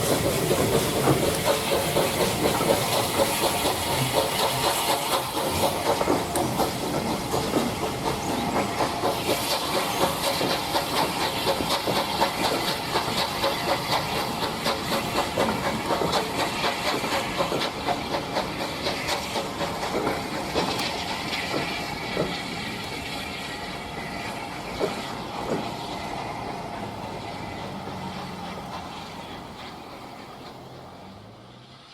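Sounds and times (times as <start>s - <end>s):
steam hissing: 0.0s - 31.9s
steam locomotive exhaust beats: 0.0s - 31.9s.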